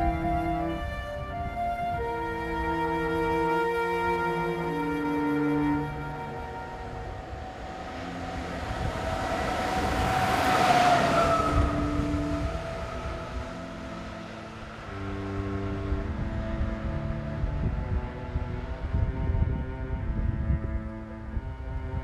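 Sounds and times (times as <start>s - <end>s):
electric locomotive passing: 0.0s - 22.0s
soft background music: 0.0s - 22.0s.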